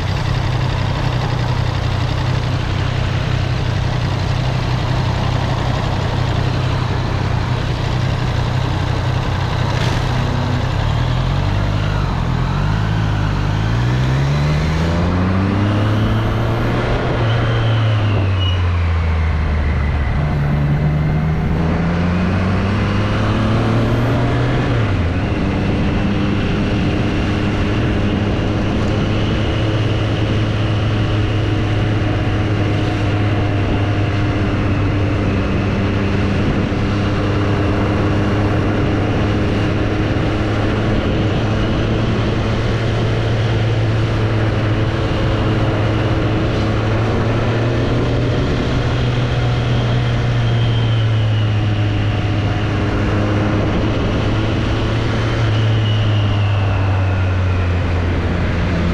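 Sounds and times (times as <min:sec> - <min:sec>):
motorcycle engine revving: 0:00.0 - 0:58.9
road and wind noise: 0:00.0 - 0:58.9.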